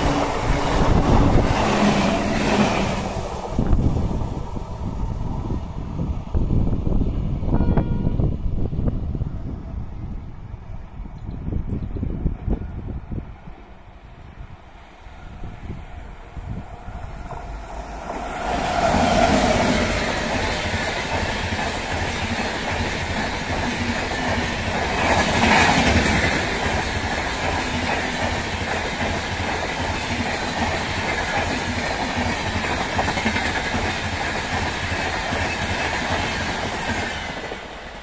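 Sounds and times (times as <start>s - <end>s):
train rolling rumble: 0.0s - 38.0s.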